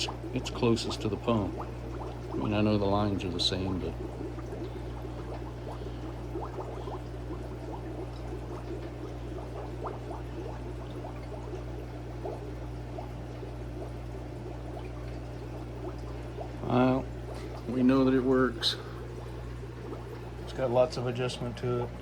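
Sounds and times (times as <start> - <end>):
air bubbling in aquarium filters: 0.0 - 22.0
steady low hum: 0.0 - 22.0.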